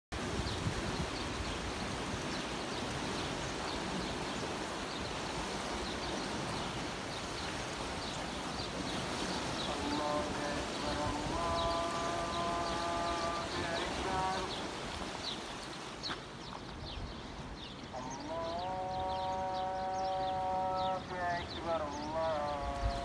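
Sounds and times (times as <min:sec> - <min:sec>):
water rushing along canal: 0:00.1 - 0:23.0
wind buffeting microphone: 0:00.1 - 0:23.0.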